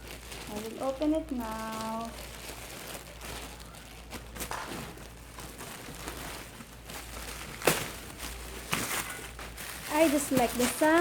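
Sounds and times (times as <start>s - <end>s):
plastic and paper rustling: 0.0s - 11.0s.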